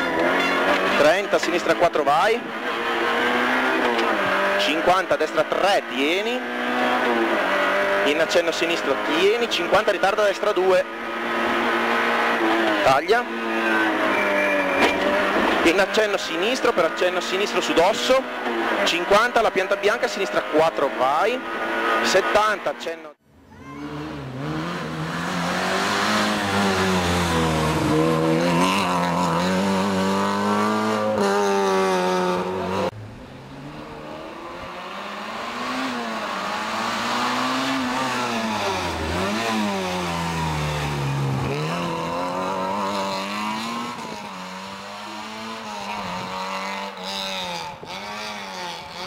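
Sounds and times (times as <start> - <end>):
rally car engine revving: 0.0 - 23.0, 23.6 - 49.0.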